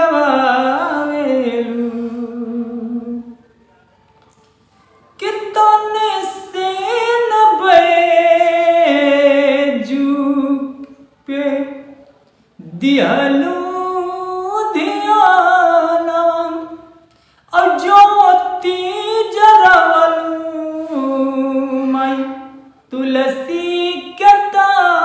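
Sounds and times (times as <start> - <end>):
man singing unaccompanied: 0.0 - 3.4, 5.2 - 11.9, 12.6 - 25.0.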